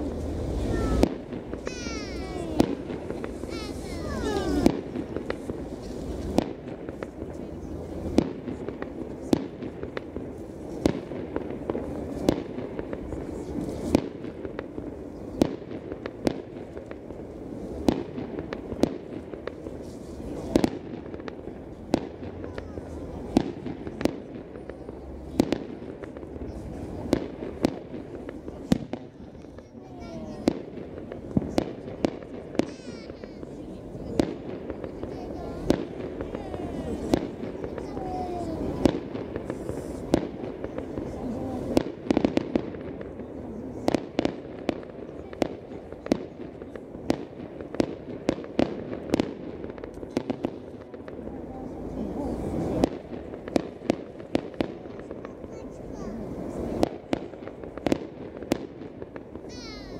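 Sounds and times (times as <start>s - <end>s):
fireworks bangs: 0.0s - 59.9s
fireworks pops and crackling: 0.0s - 59.9s
low background noise: 0.0s - 59.9s.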